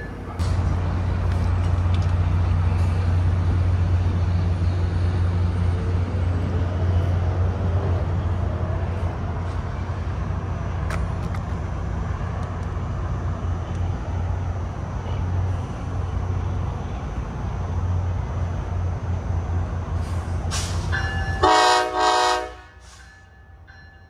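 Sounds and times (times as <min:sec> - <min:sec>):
diesel locomotive idling: 0:00.0 - 0:24.0
road traffic noise: 0:00.0 - 0:24.0.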